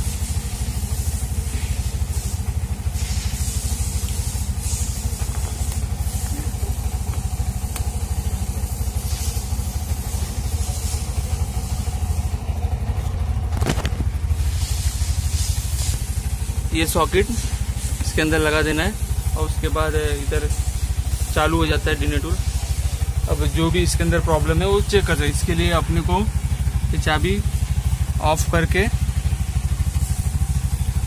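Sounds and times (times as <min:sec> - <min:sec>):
auto rickshaw engine idling: 0:00.0 - 0:31.0.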